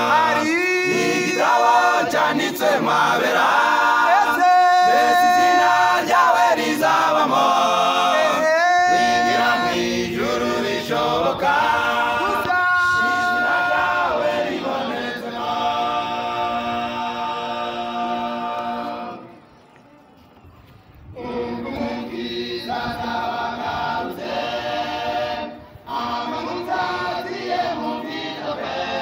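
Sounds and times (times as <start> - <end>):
choir singing in harmony: 0.0 - 19.4, 21.0 - 29.0.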